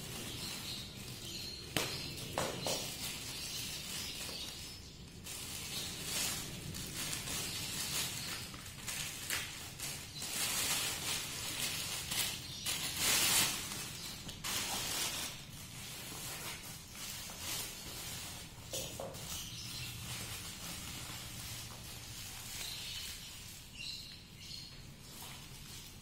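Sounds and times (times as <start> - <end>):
plastic wrapping crinkling: 0.0 - 26.0.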